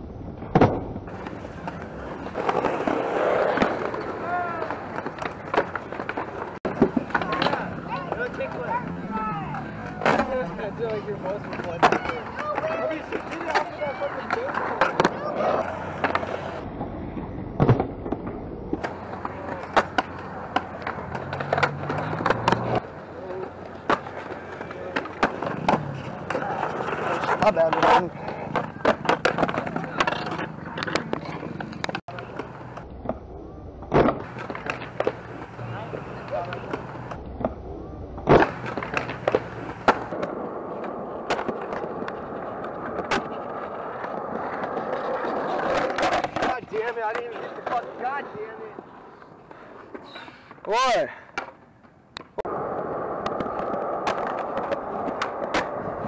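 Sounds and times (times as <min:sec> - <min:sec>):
skateboard wheels rolling: 0:00.0 - 0:56.0
skateboards clacking: 0:00.3 - 0:33.2, 0:33.8 - 0:37.6, 0:38.2 - 0:56.0.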